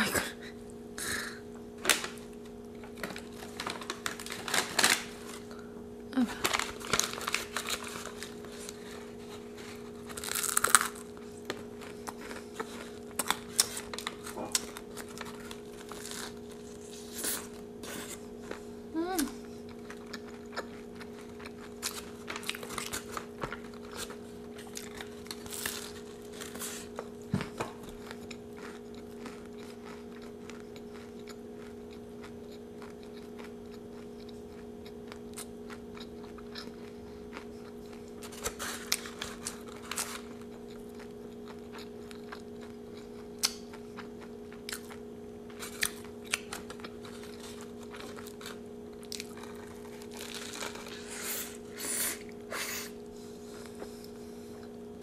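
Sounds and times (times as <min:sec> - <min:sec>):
steady hum: 0:00.0 - 0:55.0
crunchy chewing: 0:06.5 - 0:18.7, 0:19.3 - 0:54.9.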